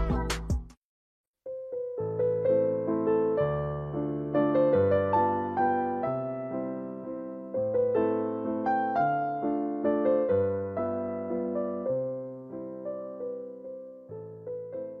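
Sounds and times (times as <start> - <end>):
gentle piano piece: 1.4 - 15.0.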